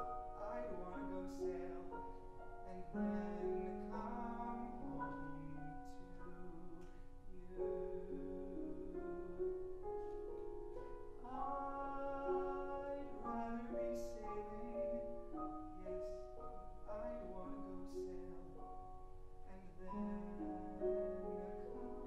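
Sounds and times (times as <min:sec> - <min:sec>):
man singing: 0:00.0 - 0:09.5, 0:11.2 - 0:16.2, 0:16.9 - 0:18.8, 0:19.5 - 0:22.0
grand piano chords: 0:00.0 - 0:22.0.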